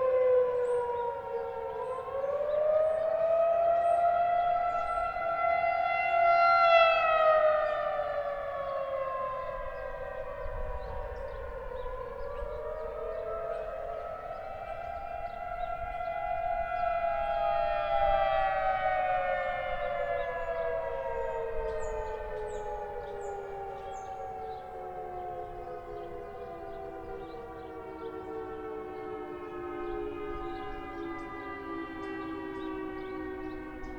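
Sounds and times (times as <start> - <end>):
distant outdoor warning sirens: 0.0 - 33.9.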